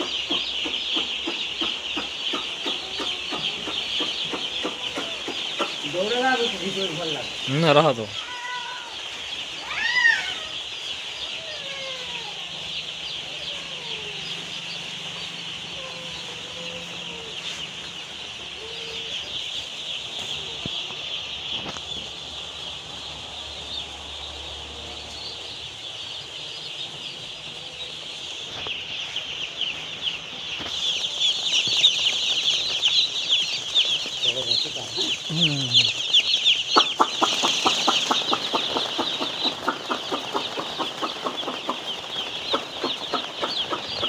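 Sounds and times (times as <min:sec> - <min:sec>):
chicks peeping: 0:00.0 - 0:44.0.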